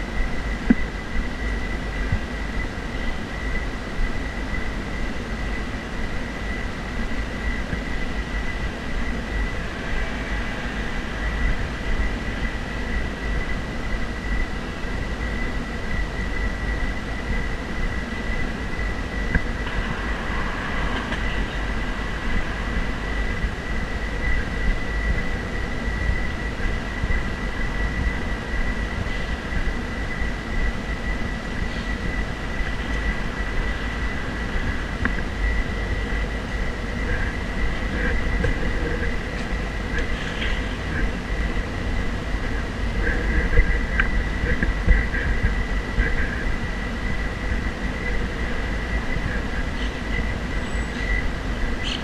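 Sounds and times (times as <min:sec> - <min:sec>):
thin high whine: 0:00.0 - 0:52.0
wind rumble on microphone: 0:00.0 - 0:52.0.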